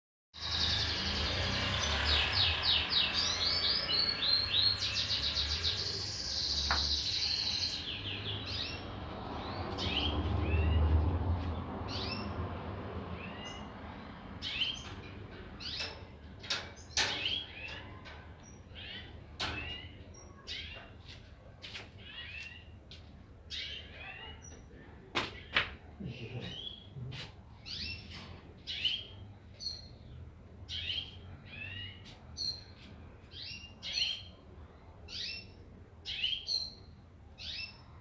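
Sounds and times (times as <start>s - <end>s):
birds chirping and trilling: 0.4s - 24.8s, 25.4s - 38.0s.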